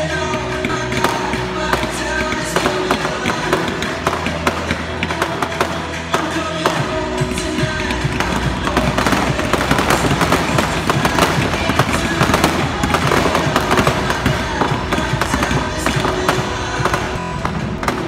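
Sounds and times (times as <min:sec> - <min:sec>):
fireworks crackling and popping: 0:00.0 - 0:18.0
music playing: 0:00.0 - 0:18.0.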